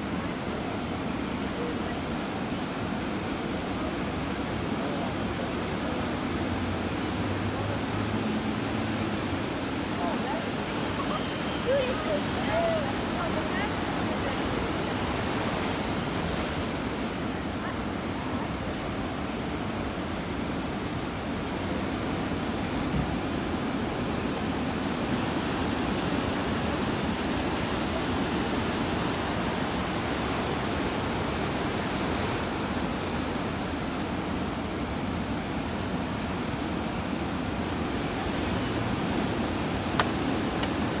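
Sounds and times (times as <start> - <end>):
water washing toward shore: 0.0 - 41.0
ocean surf breaking: 6.2 - 37.2, 38.5 - 41.0.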